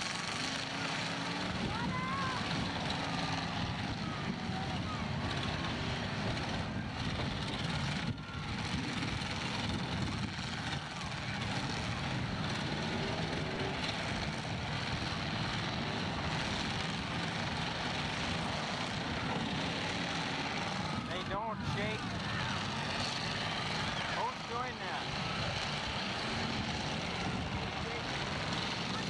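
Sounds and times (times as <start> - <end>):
many car engines revving: 0.0 - 29.0.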